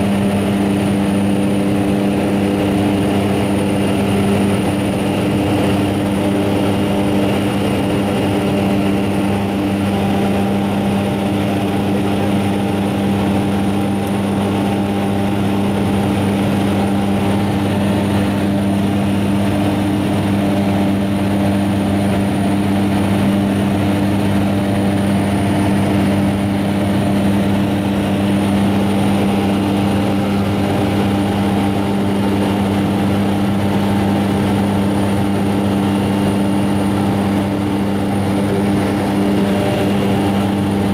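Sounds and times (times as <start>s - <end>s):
propeller aircraft engine drone: 0.0s - 40.9s.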